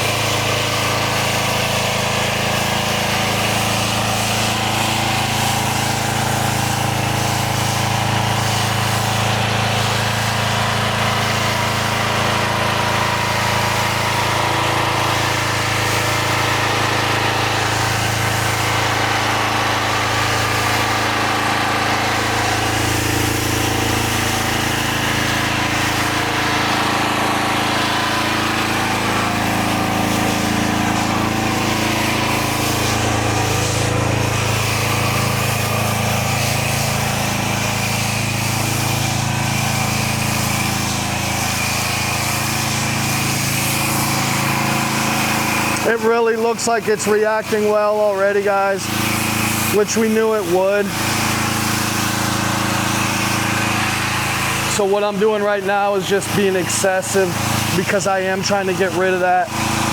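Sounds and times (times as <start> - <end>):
pressure washer engine running: 0.0 - 59.9.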